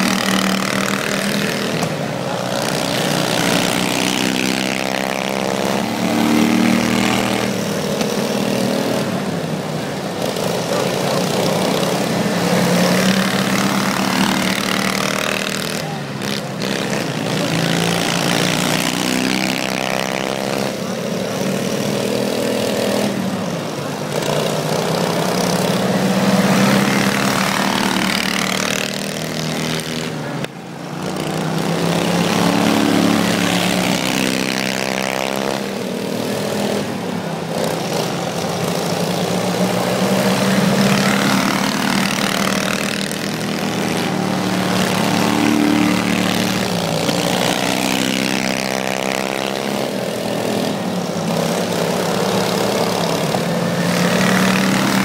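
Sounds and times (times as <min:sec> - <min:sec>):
lawn mower engines revving: 0:00.0 - 0:55.0.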